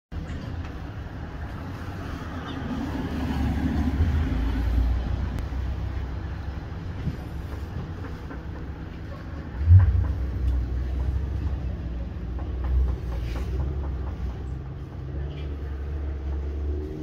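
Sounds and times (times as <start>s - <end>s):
passing vehicle rumble: 0.2s - 17.0s.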